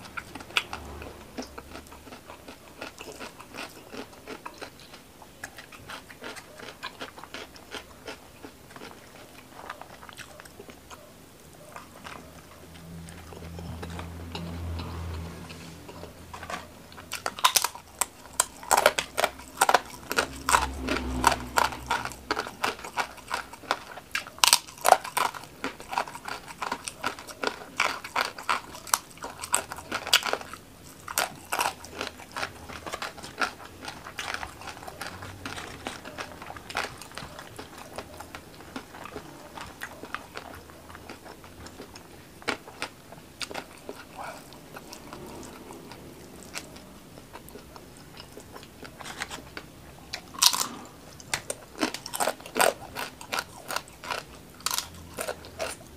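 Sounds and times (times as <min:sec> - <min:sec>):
crunching crispy cracker: 0:00.0 - 0:10.9, 0:15.8 - 0:55.9.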